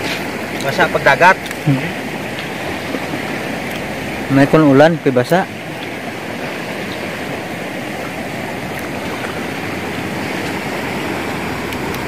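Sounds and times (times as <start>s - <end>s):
sea surf on shore: 0.0s - 12.0s.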